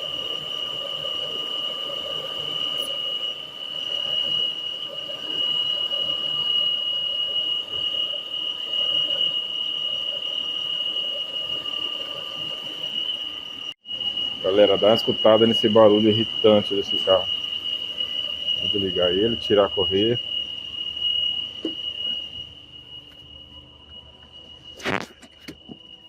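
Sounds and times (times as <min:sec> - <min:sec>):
engine running with squealing whine: 0:00.0 - 0:26.0.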